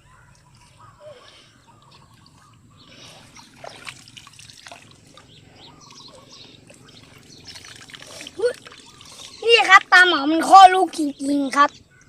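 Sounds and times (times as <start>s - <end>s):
faint water dripping: 0.3s - 11.0s.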